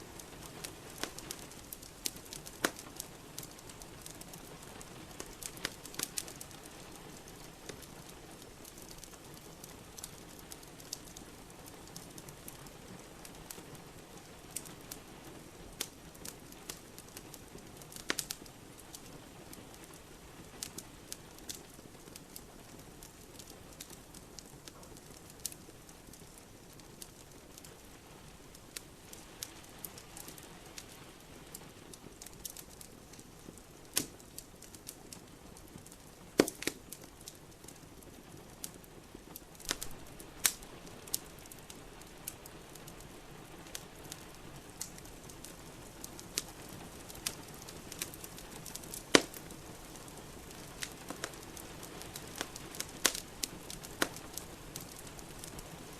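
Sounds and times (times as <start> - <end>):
rain hiss: 0.0 - 55.9
wood fire crackling: 0.0 - 55.9.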